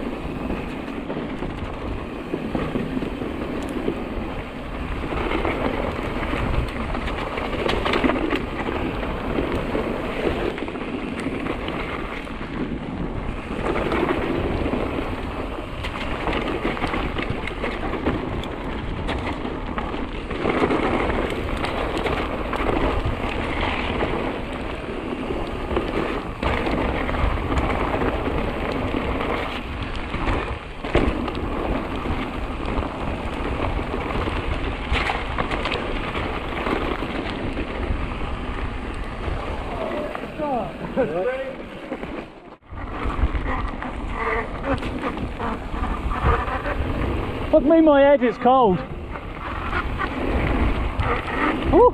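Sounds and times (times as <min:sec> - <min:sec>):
bike tyres crackling and rattling: 0:00.0 - 0:51.9
wind rumbling on microphone: 0:00.0 - 0:51.9.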